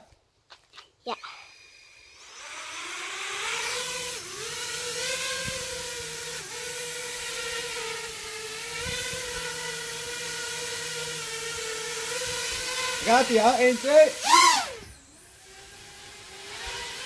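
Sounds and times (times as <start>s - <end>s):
drone motors whining: 1.3s - 17.0s.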